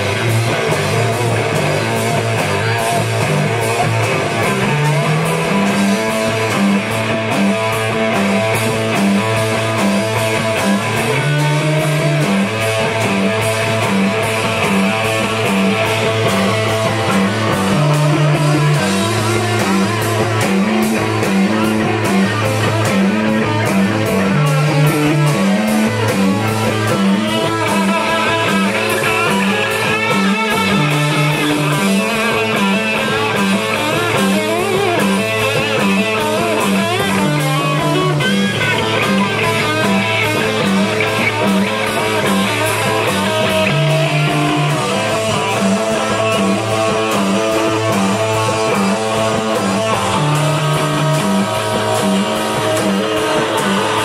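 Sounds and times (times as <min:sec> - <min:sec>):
bass line: 0:00.0 - 0:54.0
drum kit: 0:00.0 - 0:54.0
electric guitar: 0:00.0 - 0:54.0.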